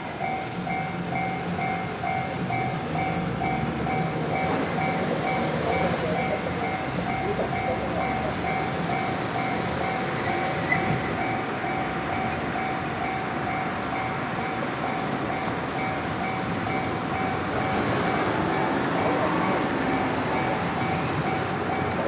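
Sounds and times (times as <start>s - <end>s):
level-crossing warning alarm: 0.0s - 22.0s
passing train rumble: 0.0s - 22.0s.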